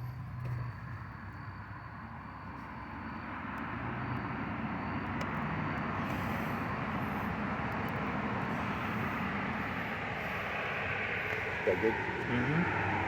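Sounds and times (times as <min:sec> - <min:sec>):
steady engine or traffic noise: 0:00.0 - 0:13.0.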